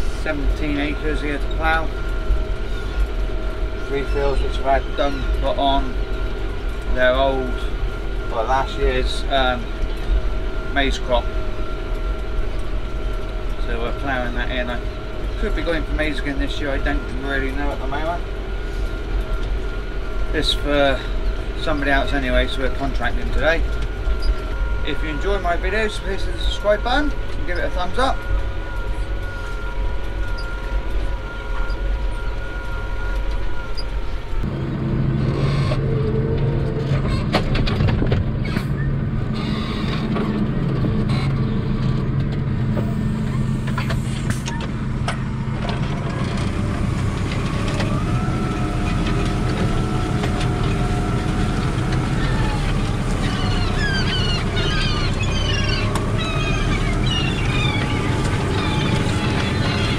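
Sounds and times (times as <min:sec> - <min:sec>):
gulls calling: 0:00.0 - 0:34.6, 0:46.2 - 0:59.9
tractor engine running under load: 0:00.0 - 0:59.9.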